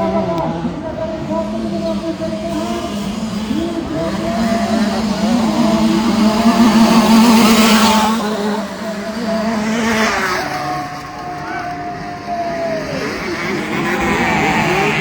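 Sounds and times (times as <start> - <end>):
motocross bike engines running hard: 0.0 - 15.0.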